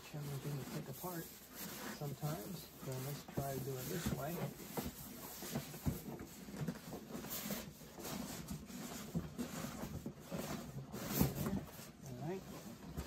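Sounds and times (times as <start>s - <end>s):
cardboard scraping against foam: 0.0s - 13.0s.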